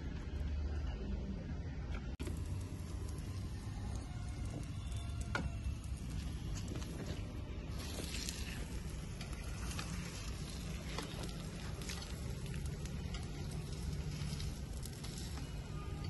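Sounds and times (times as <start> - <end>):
wood fire crackling and hissing: 2.2 - 16.0.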